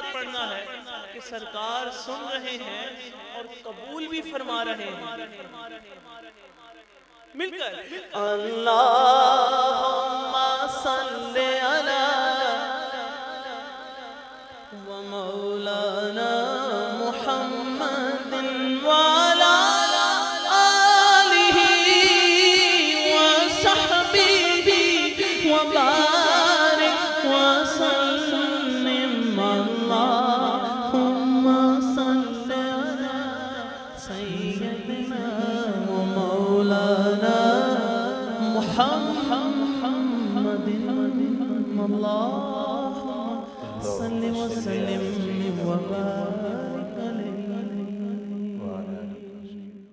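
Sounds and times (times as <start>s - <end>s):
man singing devotional chant: 0.0s - 6.7s, 7.3s - 49.9s.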